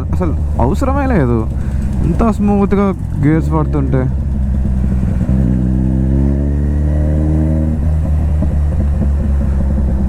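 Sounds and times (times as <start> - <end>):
motorcycle engine revving through gears: 0.0 - 10.0.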